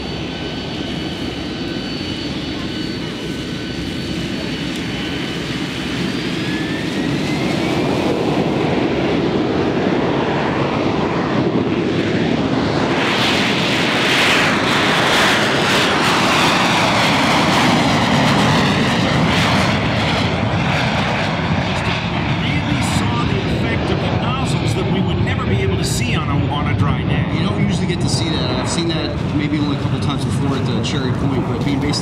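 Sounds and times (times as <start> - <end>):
jet engine roar: 0.0 - 32.0
jet engine whine: 0.0 - 32.0.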